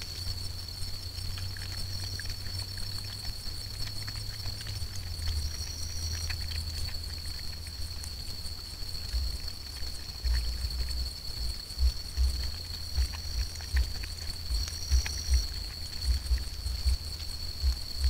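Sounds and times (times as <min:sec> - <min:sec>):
animal lapping water: 0:00.0 - 0:18.0.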